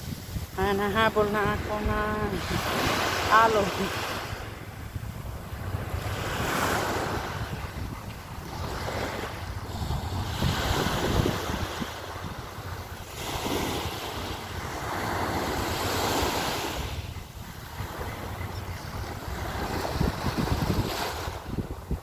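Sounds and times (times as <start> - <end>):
small waves washing on shore: 0.0 - 22.0
wind buffeting microphone: 0.0 - 22.0.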